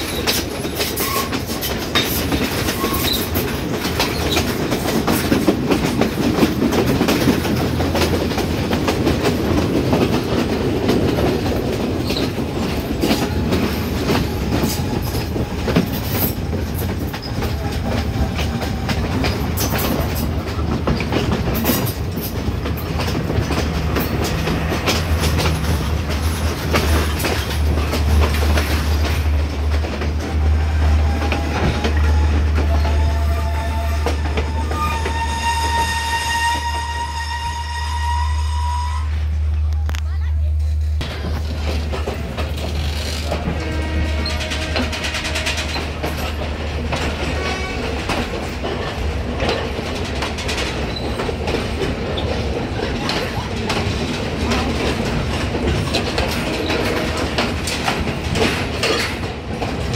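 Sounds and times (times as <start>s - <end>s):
train wheels clacking over rail joints: 0.0s - 37.8s, 40.2s - 59.9s
steady train rumble: 0.0s - 59.9s.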